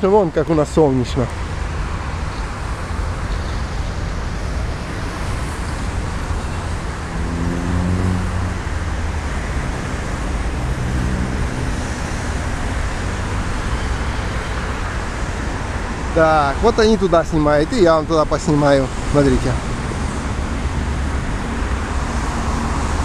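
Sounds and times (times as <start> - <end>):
road traffic on wet streets: 0.0 - 23.0
vehicle engines passing: 0.0 - 23.0.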